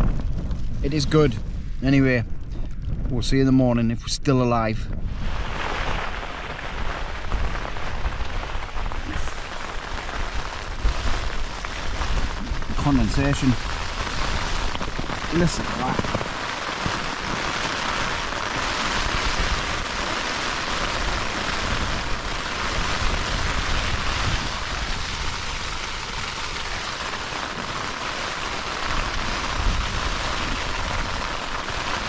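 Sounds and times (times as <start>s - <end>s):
heavy rain on tent: 0.0s - 2.9s, 5.0s - 32.0s
wind gusts: 0.0s - 32.0s.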